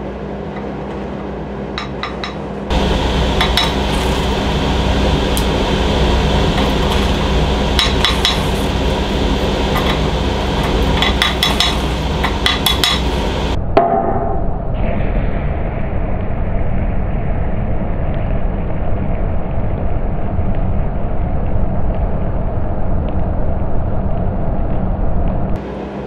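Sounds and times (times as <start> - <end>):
steady rushing noise: 1.4 - 13.7, 14.6 - 26.0.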